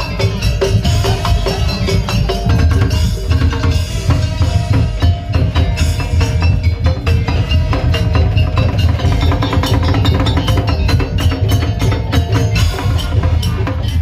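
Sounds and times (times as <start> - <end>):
heavy bass: 0.0 - 14.0.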